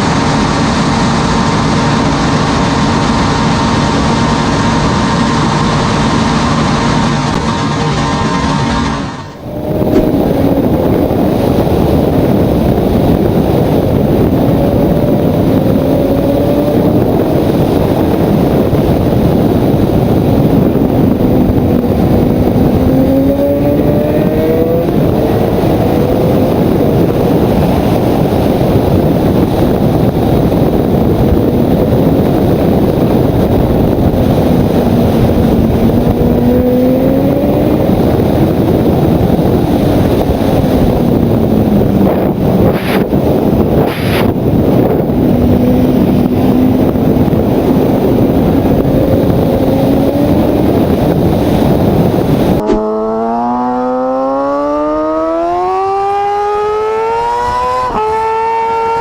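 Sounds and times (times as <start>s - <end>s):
motorcycle engine pulling at speed: 0.0s - 59.0s
wind rush on microphone: 0.0s - 59.0s.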